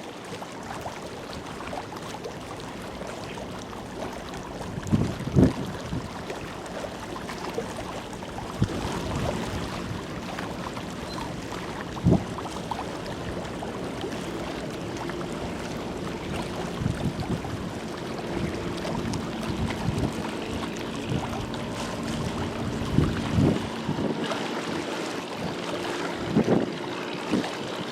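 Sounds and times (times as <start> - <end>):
faint ship engine hum: 0.0 - 27.9
water noise: 0.0 - 27.9
wind: 0.0 - 27.9.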